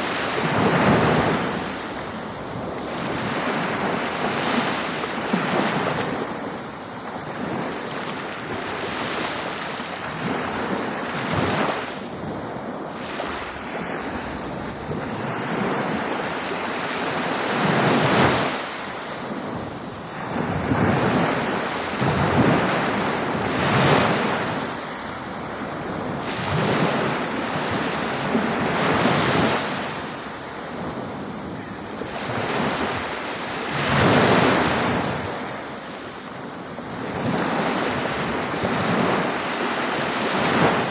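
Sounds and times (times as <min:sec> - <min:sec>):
surf washing in: 0:00.0 - 0:40.9
wind buffeting microphone: 0:00.0 - 0:40.9.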